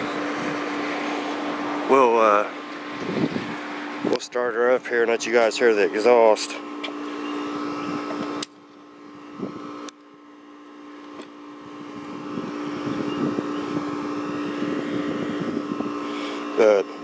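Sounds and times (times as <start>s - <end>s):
motorcycle engine starting and rumbling: 0.0s - 17.0s.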